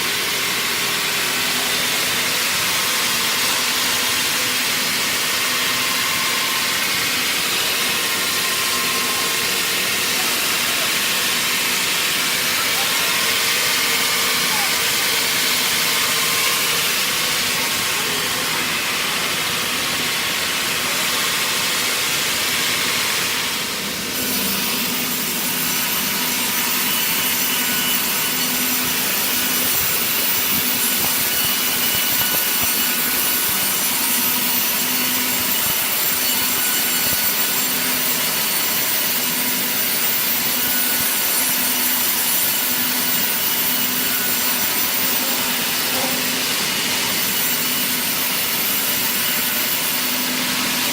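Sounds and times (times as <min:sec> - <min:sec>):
saw cutting wood: 0:00.0 - 0:50.9.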